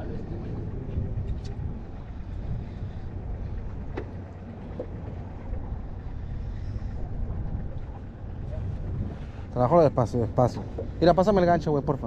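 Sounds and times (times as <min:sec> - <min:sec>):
water against a boat hull: 0:00.0 - 0:12.0
wind rumbling on microphone: 0:00.0 - 0:12.0.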